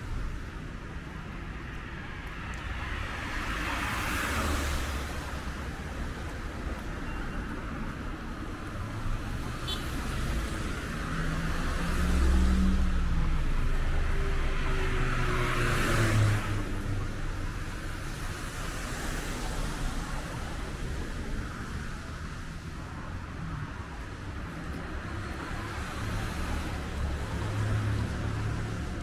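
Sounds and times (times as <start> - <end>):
cars passing on wet road: 0.0 - 29.0.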